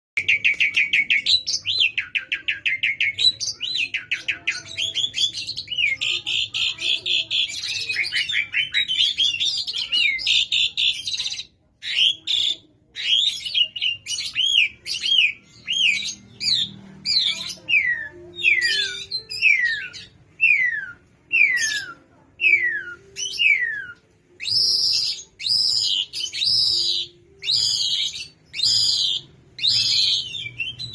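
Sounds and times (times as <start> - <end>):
starling singing: 0.2 - 30.9.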